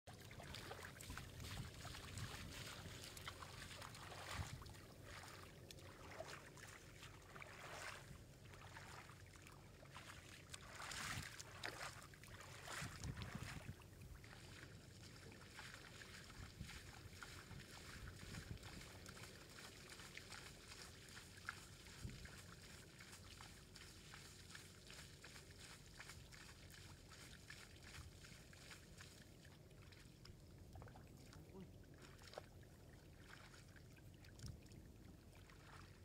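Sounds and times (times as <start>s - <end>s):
fish splashing in shallow water: 0.1s - 36.0s.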